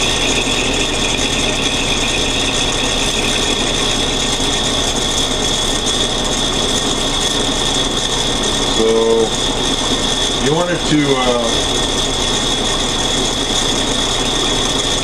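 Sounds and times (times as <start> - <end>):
high whine: 0.0 - 12.7
metal lathe grinding: 0.0 - 15.0.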